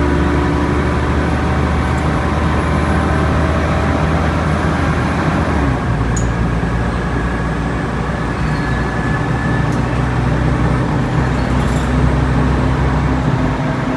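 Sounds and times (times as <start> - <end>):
bus engine drone: 0.0 - 13.9.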